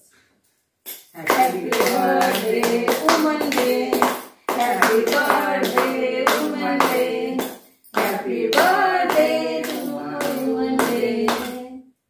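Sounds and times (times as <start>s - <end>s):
hands clapping in time: 1.2s - 11.6s
women singing together: 1.2s - 11.9s.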